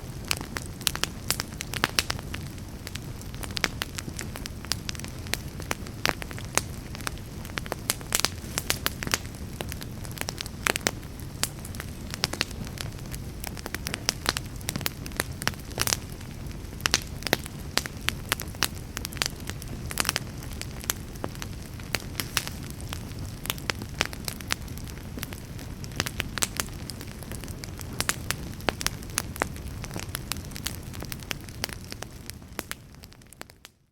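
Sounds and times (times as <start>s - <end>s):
wood fire crackling and popping: 0.0s - 33.8s.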